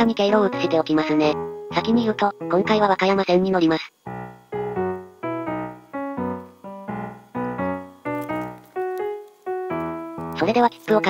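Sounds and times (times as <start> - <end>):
keyboard chords: 0.0 - 3.2, 4.0 - 10.8.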